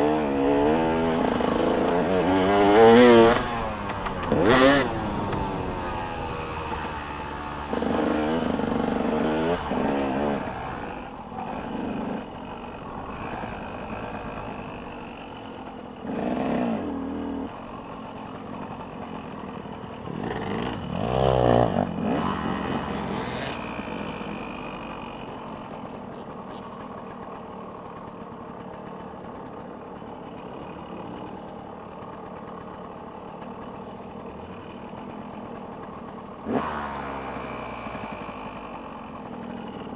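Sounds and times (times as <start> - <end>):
dirt bikes passing close: 0.0 - 39.9
distant dirt bikes droning: 0.0 - 39.9.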